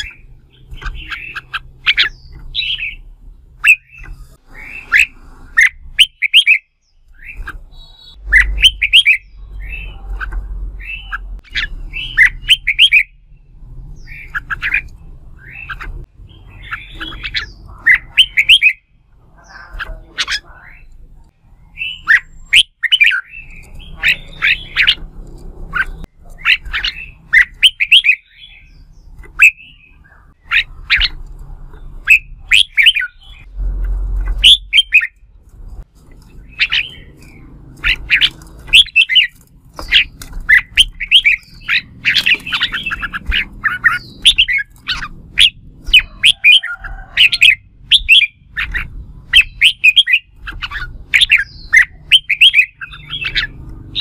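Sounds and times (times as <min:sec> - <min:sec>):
birds whistling and chattering: 0:00.0 - 0:54.0.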